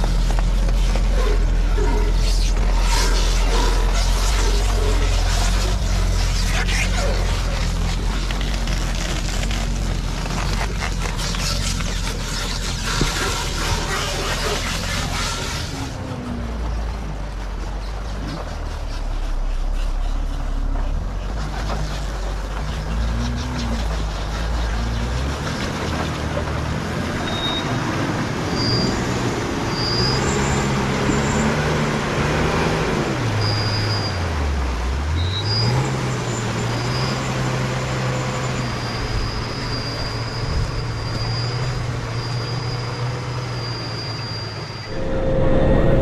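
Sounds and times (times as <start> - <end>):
tracked vehicle engine under load: 0.0 - 46.0.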